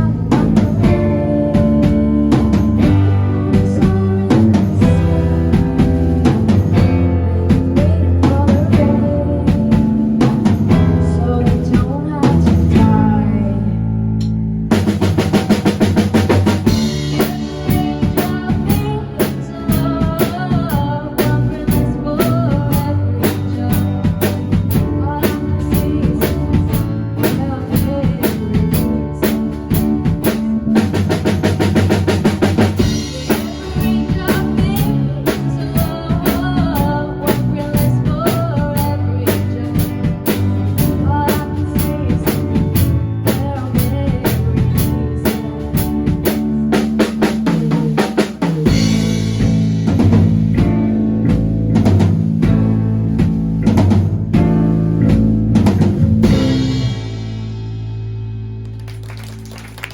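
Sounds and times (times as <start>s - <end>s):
drum kit beat: 0.0s - 13.4s, 14.2s - 59.9s
band playing pop song: 0.0s - 59.9s.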